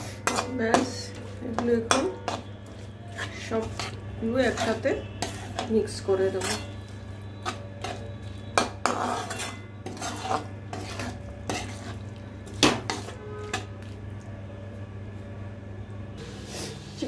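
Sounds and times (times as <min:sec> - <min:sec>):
spatula scraping a pan: 0:00.0 - 0:13.7.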